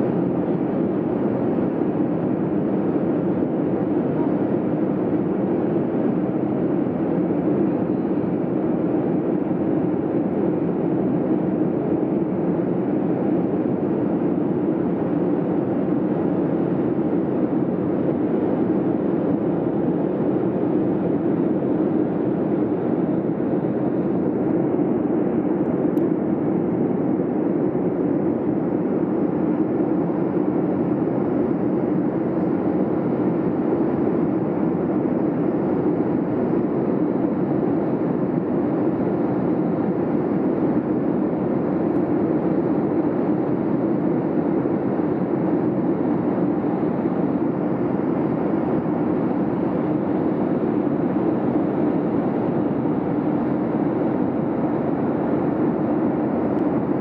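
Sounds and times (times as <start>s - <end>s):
jet airliner cabin noise: 0.0s - 57.0s.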